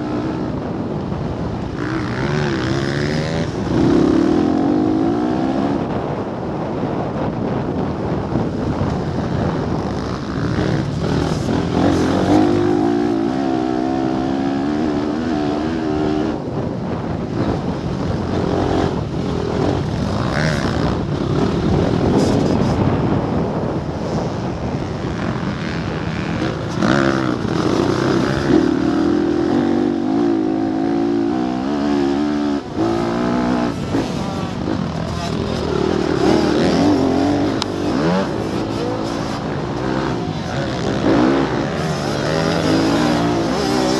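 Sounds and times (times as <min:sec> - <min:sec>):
dirt bike engine revving: 0:00.0 - 0:06.3, 0:09.1 - 0:43.9.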